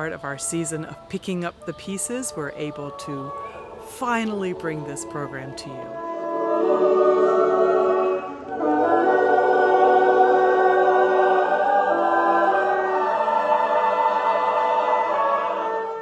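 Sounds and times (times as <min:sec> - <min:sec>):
choir singing chords: 0:00.0 - 0:16.0.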